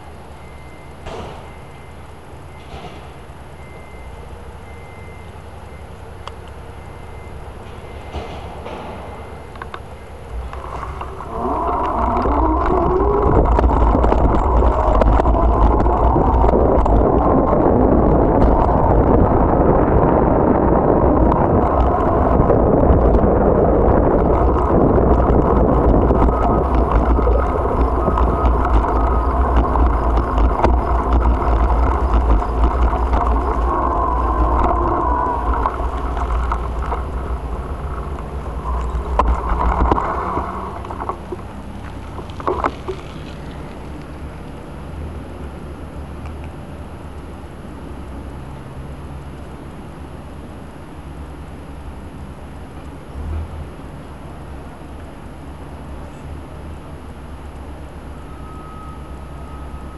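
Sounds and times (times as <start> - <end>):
bicycle road noise: 0.0 - 59.9
wind rumble on microphone: 0.0 - 59.9.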